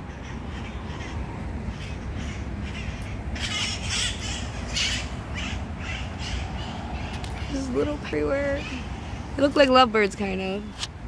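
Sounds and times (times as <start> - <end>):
parrots squawking: 0.0 - 9.2.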